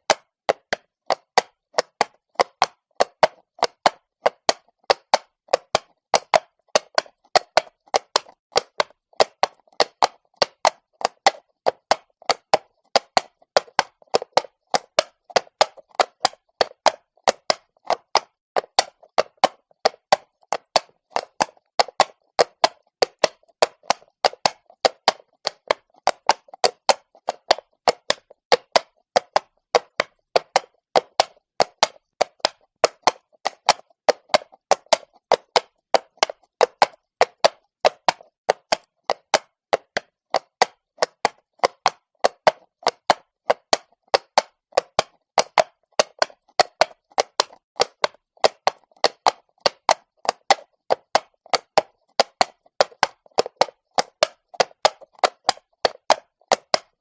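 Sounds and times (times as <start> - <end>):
horse hooves on cobblestones: 0.1 - 57.0.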